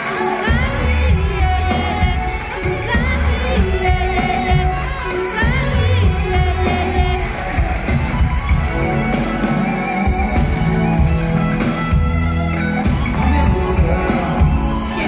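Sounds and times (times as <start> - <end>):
live pop music with singing: 0.0 - 15.0.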